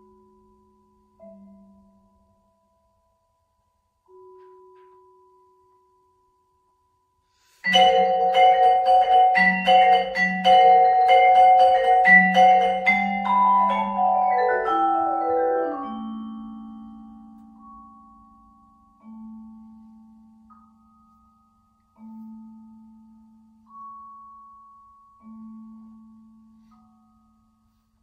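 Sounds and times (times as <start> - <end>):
vibraphone struck with mallets: 0.0 - 3.2, 4.1 - 28.0.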